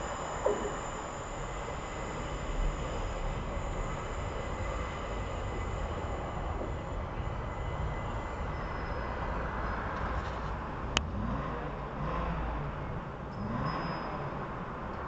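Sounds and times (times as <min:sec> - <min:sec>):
electric train rumbling with whine: 0:00.0 - 0:15.0.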